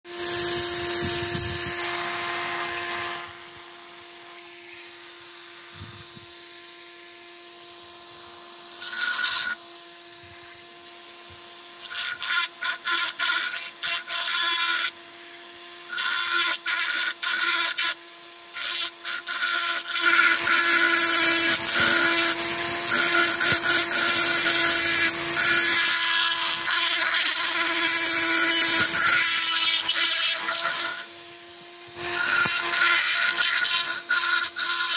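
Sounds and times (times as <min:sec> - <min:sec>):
small motor whining: 0:00.1 - 0:34.9.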